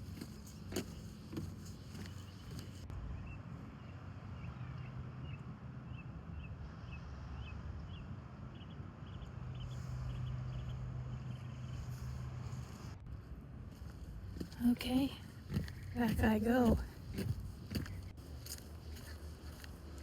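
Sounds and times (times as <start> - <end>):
low steady hum: 1.6 - 20.0.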